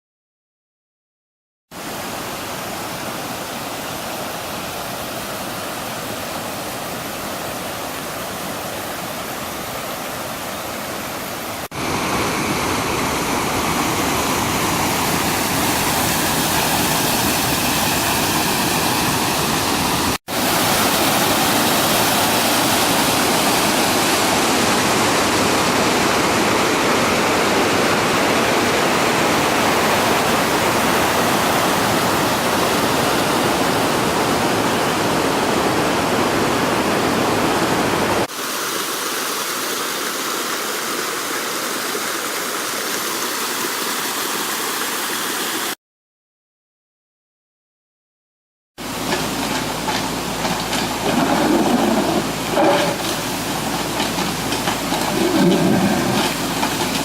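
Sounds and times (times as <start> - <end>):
flooded river rushing: 1.8 - 45.8, 48.8 - 57.0.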